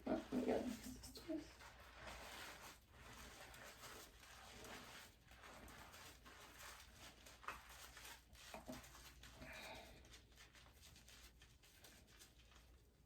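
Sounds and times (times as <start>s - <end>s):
hands lathering wet hair: 0.0s - 13.0s.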